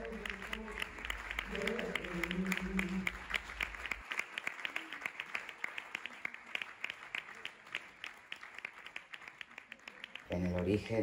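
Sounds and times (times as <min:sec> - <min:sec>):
small group applauding: 0:00.0 - 0:11.0.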